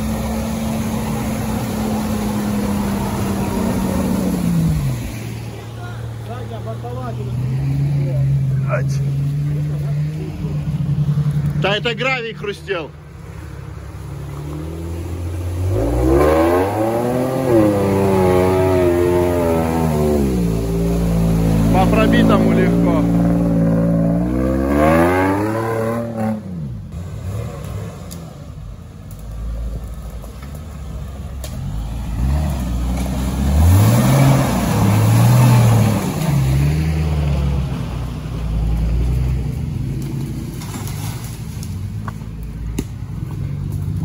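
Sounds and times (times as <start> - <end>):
vehicle engine revving: 0.0 - 44.0.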